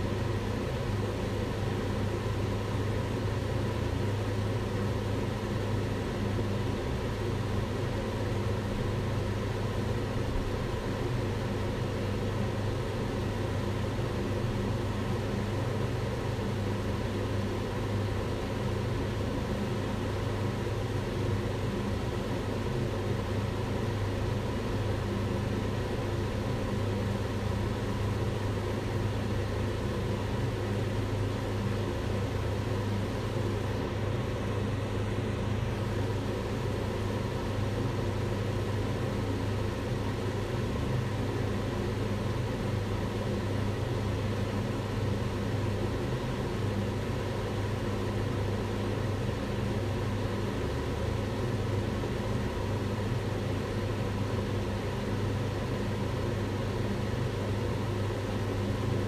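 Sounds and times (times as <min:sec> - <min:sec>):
range hood fan running: 0:00.0 - 0:59.0.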